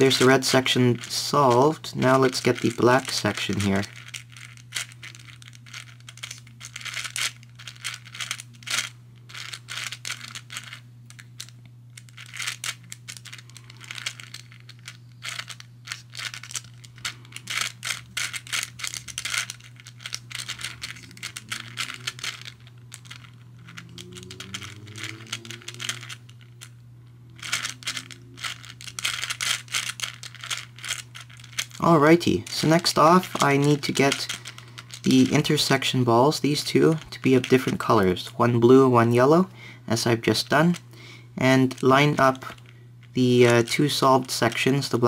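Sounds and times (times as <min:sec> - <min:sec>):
puzzle balls clicking and rattling: 0:00.0 - 0:45.0
steady low hum: 0:00.0 - 0:45.0.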